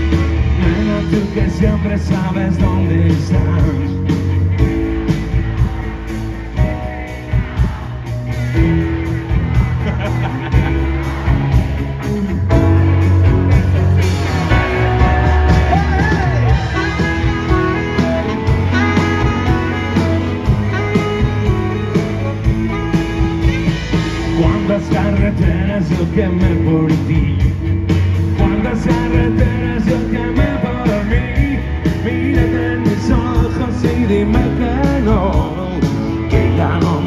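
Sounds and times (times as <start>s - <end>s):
electric guitar lead bending: 0.0s - 37.0s
rock band playing: 0.0s - 37.0s.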